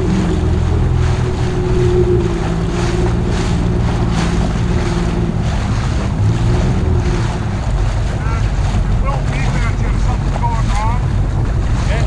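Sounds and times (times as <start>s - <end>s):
jet ski engine running: 0.0s - 12.0s
water rushing: 0.0s - 12.0s
wind buffeting microphone: 0.0s - 12.0s.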